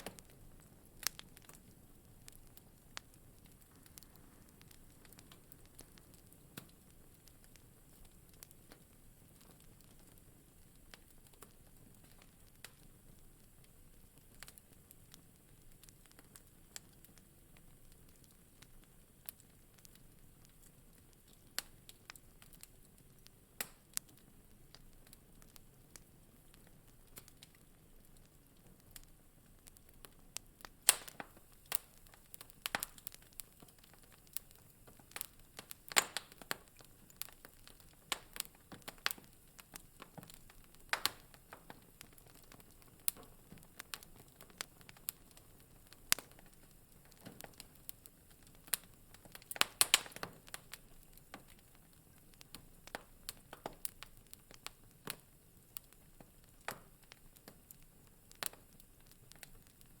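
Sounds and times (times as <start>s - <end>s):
faint hiss: 0.0s - 60.0s
wood fire crackling and popping: 0.0s - 60.0s.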